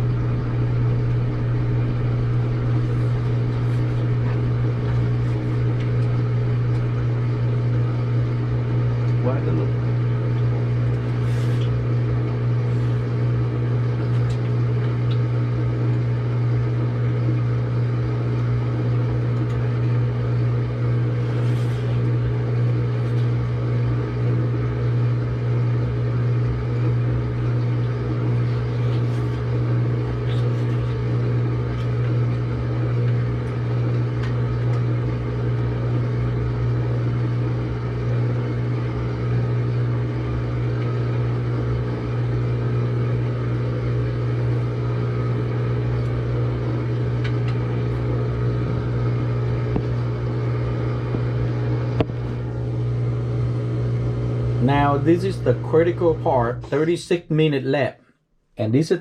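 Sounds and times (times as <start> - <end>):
washing machine hum: 0.0 - 58.0.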